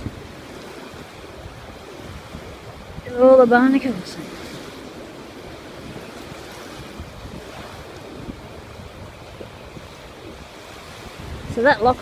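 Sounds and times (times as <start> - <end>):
sea waves rushing on beach: 0.0 - 12.0
wind buffeting microphone: 0.0 - 12.0.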